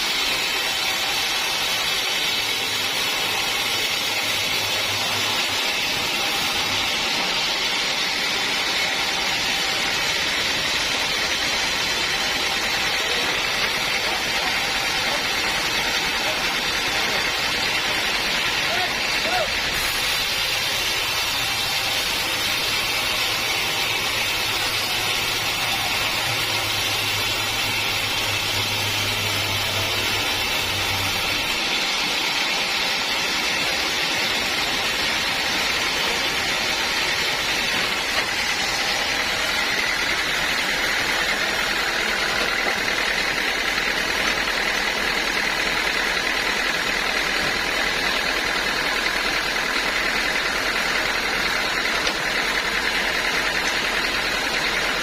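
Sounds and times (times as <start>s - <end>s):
sawmill saw whining: 0.0s - 55.0s.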